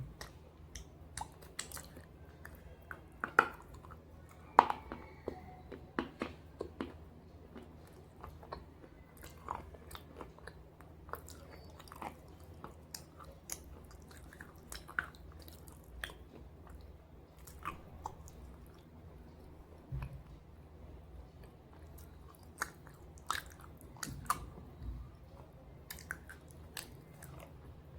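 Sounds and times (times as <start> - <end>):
crunchy chewing: 0.0 - 18.9, 21.4 - 27.8.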